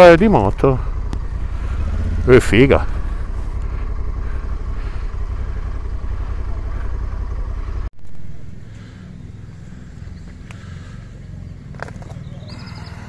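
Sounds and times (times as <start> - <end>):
motorcycle engine rumbling: 0.0 - 13.0
outdoor background: 0.0 - 13.0.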